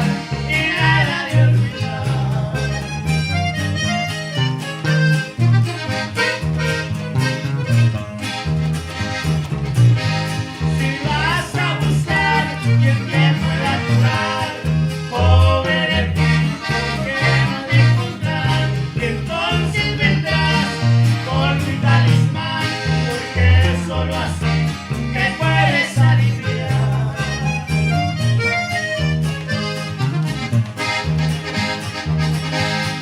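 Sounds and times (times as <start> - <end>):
accordion melody: 0.0 - 33.0
pulsing bass line: 0.0 - 33.0
strummed guitar: 0.0 - 33.0.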